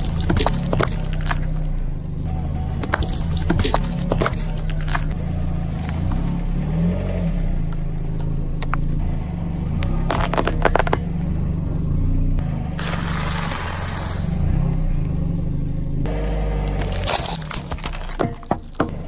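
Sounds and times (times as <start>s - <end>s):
car engine running: 0.0s - 19.0s
objects cracking under tyre: 0.0s - 19.0s.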